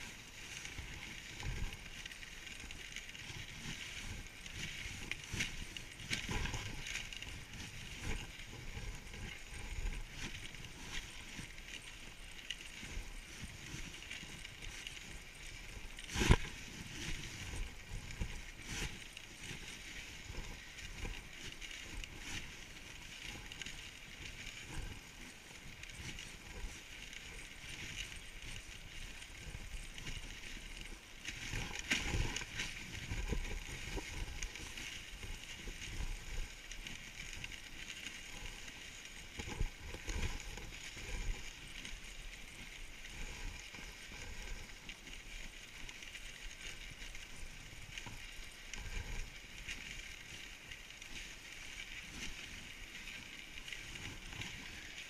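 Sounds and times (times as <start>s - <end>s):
sled knocking and rattling: 0.0s - 55.0s
sled runners scraping on snow: 0.0s - 55.0s.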